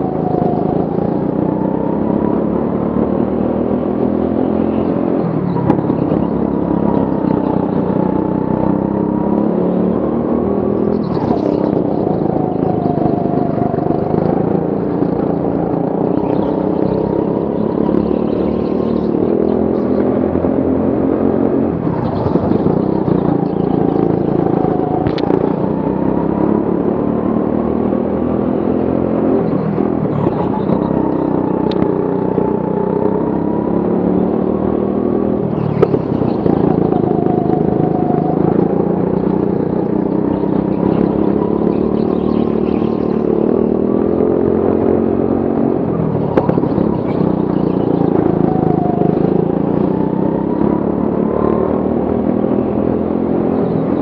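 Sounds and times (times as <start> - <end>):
go-kart engine revving: 0.0 - 54.0
other kart engines: 0.0 - 54.0.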